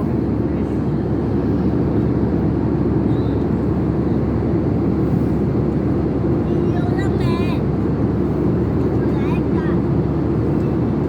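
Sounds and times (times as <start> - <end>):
airliner cabin noise: 0.0 - 11.0.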